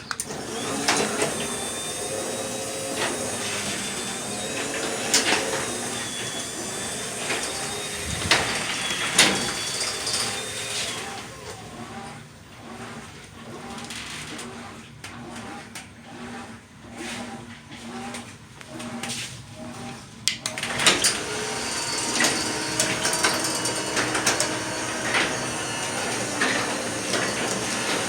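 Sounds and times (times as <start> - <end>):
garage door opener whine: 0.0 - 28.0.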